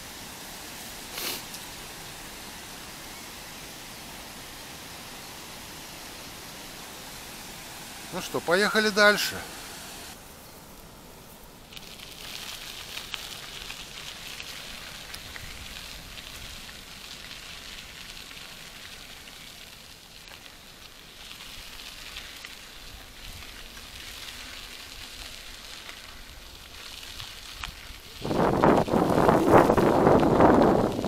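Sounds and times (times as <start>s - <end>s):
bicycle tyres on gravel: 0.0s - 31.0s.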